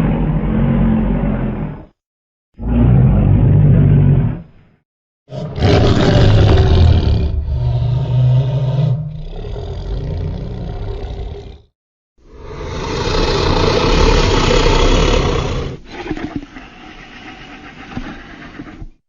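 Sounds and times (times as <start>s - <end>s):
dinosaur roar: 0.0s - 2.0s, 2.6s - 4.5s, 5.3s - 11.7s, 12.3s - 18.9s.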